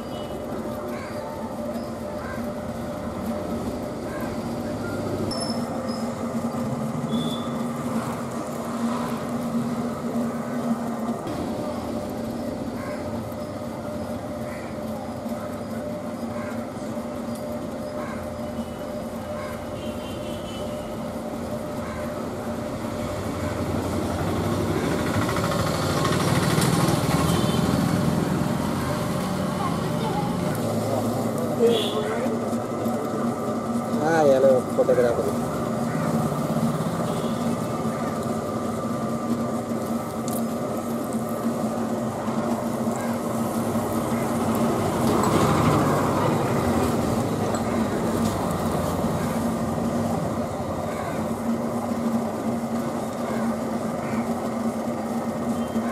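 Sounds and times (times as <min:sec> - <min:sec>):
potter's wheel motor hum: 0:00.0 - 0:55.9.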